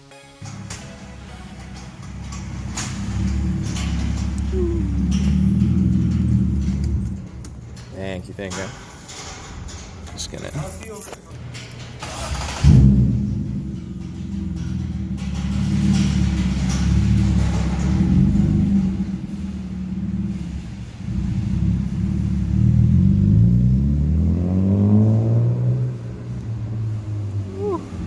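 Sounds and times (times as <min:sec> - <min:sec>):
car engine idling: 0:00.4 - 0:28.0.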